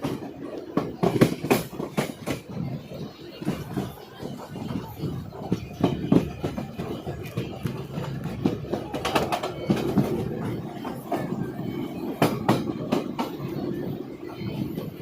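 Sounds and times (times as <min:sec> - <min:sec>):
train rumbling on rails: 0:00.0 - 0:15.0
wheels clacking on track: 0:00.0 - 0:15.0.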